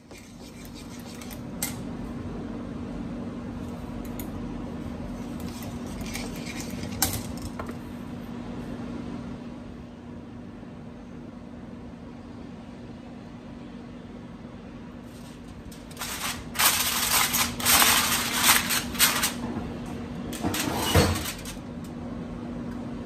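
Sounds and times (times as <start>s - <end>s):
steady low room hum: 0.0s - 23.0s.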